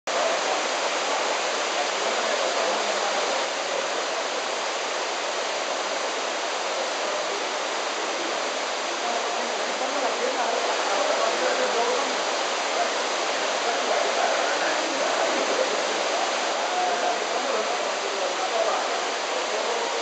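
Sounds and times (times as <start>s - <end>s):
waterfall pouring: 0.1s - 20.0s.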